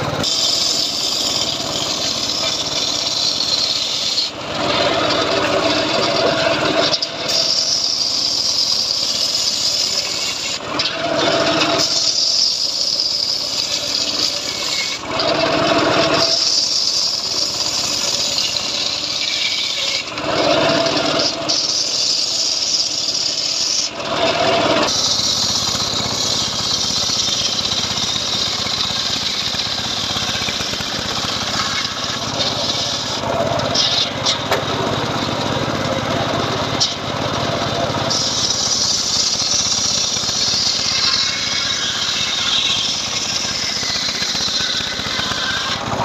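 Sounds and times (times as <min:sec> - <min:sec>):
circular saw cutting wood: 0:00.0 - 0:46.0.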